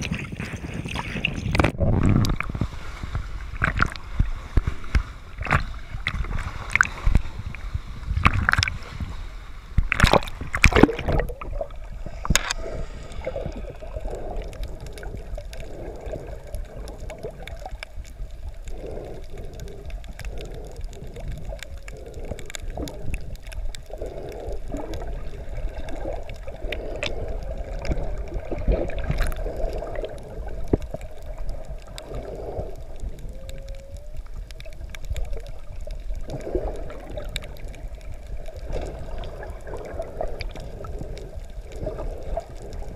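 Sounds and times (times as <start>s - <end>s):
underwater gurgling and bubbling: 0.0s - 42.9s
water splashing: 0.0s - 42.9s.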